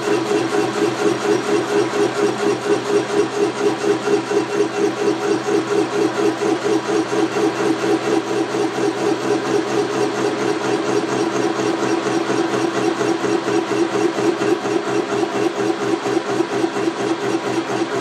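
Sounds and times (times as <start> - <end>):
milling machine cutting metal: 0.0 - 18.0.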